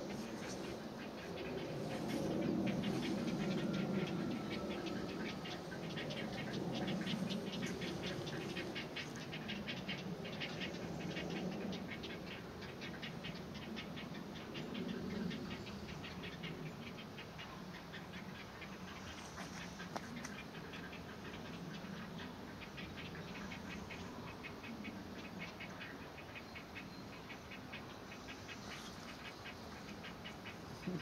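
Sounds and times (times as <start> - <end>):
heron chicks ticking calls: 0.0 - 31.0.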